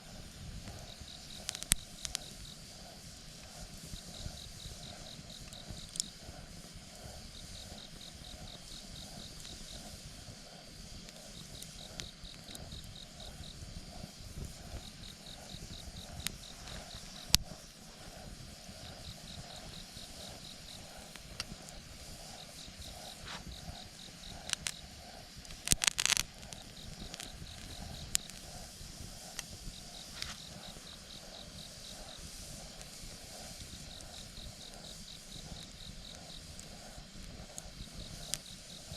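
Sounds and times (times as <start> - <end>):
fire popping: 0.0 - 38.9
insect chirping trills: 0.0 - 38.9
wood fire crackling: 0.1 - 38.9.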